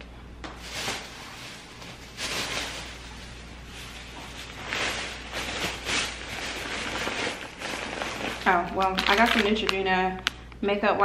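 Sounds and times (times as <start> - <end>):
plastic bag rustling: 0.5 - 10.3.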